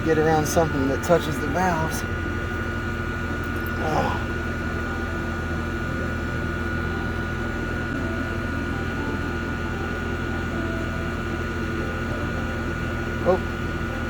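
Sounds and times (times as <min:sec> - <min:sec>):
high-pitched whine: 0:00.0 - 0:14.0
mechanical hum: 0:00.0 - 0:14.0.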